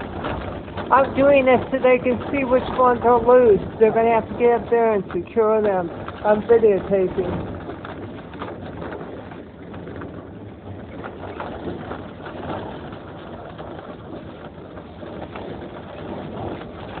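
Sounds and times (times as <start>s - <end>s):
wind gusting: 0.0s - 17.0s.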